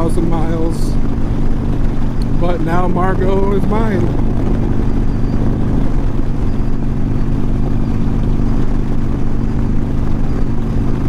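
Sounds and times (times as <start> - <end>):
motorcycle engine cruising: 0.0 - 11.0
wind rush on microphone: 0.0 - 11.0.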